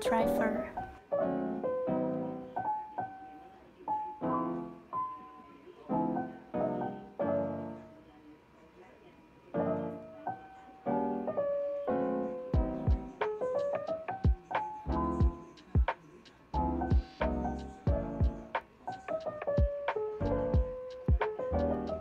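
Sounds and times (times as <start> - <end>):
gentle piano music: 0.0 - 8.1, 9.5 - 22.0.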